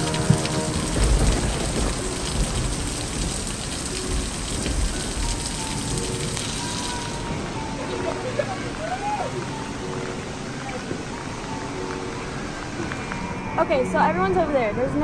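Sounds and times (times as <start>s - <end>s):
water pouring off metal roof: 0.0s - 12.8s
heavy rain pattering: 0.0s - 15.0s.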